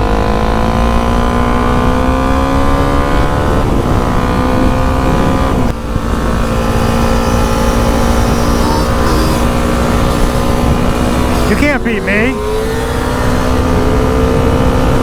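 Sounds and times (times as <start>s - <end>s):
motorcycle engine accelerating: 0.0s - 15.0s
wind rumbling on microphone: 0.0s - 15.0s.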